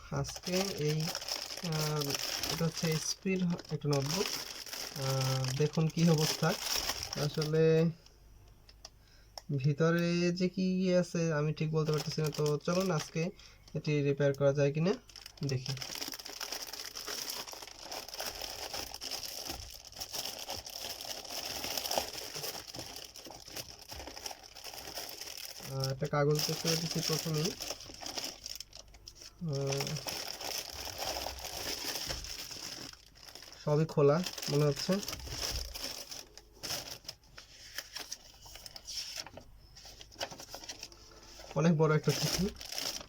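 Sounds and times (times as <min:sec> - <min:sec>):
packaging crinkling and rustling: 0:00.0 - 0:07.9, 0:11.8 - 0:43.0.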